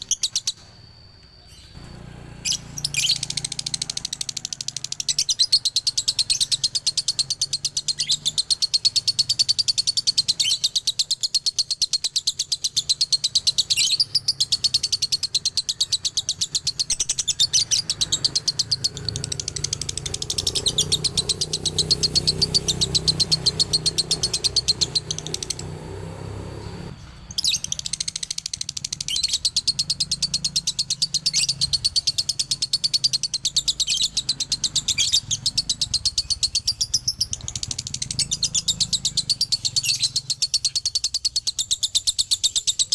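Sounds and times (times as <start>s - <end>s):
lovebird chattering song: 0.0s - 42.9s.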